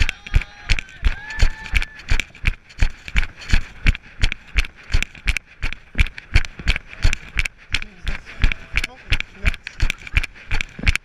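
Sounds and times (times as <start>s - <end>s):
running footsteps on tarmac: 0.0s - 11.0s.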